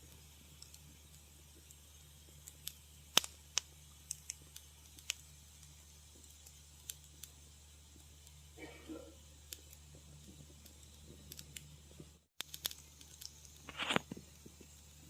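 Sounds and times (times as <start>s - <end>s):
steady low hum: 0.0s - 15.0s
wood fire crackling: 0.0s - 15.0s.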